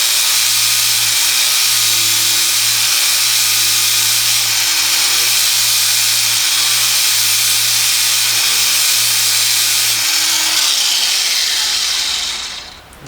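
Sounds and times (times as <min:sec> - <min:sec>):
angle grinder grinding steel: 0:00.0 - 0:12.9
grinder motor hum: 0:00.0 - 0:13.0.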